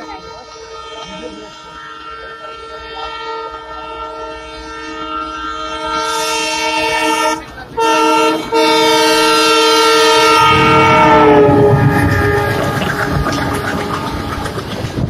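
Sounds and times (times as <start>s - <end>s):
locomotive horn blast: 0.0s - 15.0s
train rumbling: 0.0s - 15.0s.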